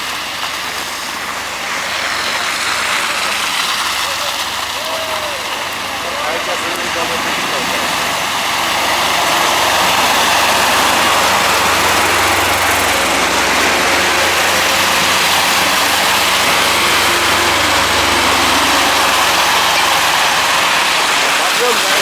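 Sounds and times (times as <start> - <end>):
constant hiss: 0.0 - 22.0
heavy vehicle engine droning: 0.0 - 22.0.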